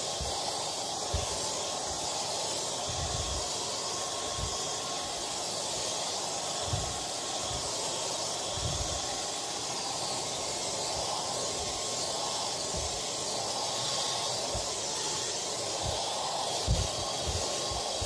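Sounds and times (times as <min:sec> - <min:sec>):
hair dryer blowing: 0:00.0 - 0:18.0.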